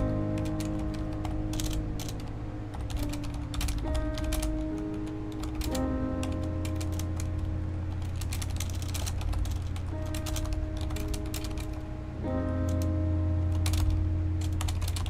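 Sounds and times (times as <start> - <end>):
mechanical keyboard key clicks: 0.0 - 11.8, 13.6 - 15.0
sustained synth music: 0.0 - 15.0.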